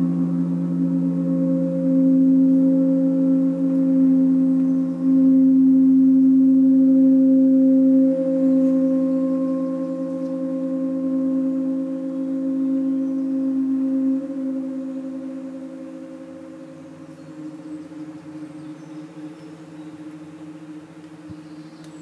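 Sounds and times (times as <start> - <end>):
metal instrument ringing low tones: 0.0 - 22.0.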